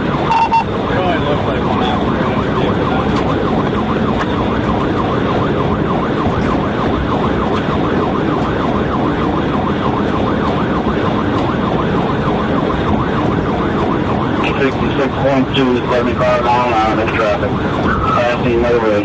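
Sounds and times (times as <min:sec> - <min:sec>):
engine and tyre noise: 0:00.0 - 0:19.0
police siren yelping: 0:00.0 - 0:19.0.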